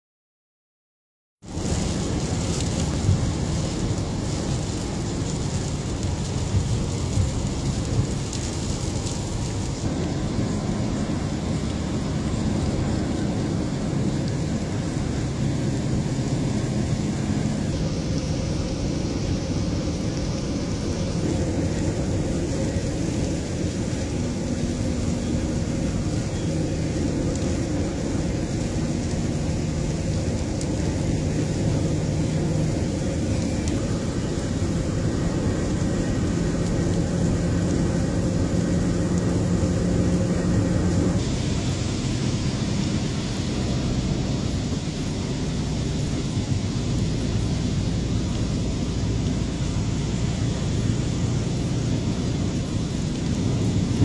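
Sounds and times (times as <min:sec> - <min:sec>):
engine and tyres on wet road: 0:01.4 - 0:54.0.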